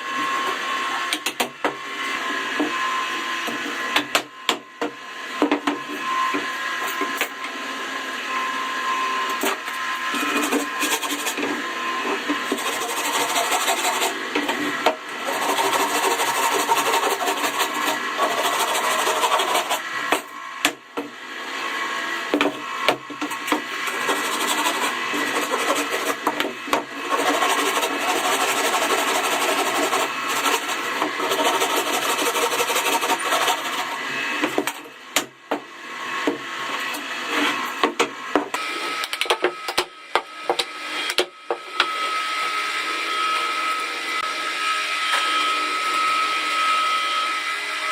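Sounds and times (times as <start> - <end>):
woodworking tool running: 0.0 - 47.9.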